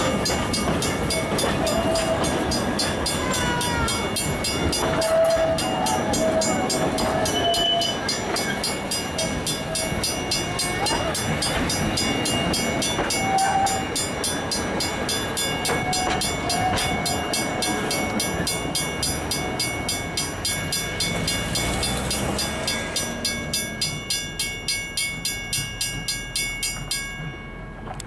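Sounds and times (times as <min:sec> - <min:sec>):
level crossing warning bell: 0:00.0 - 0:28.0
train rumble: 0:00.0 - 0:28.0.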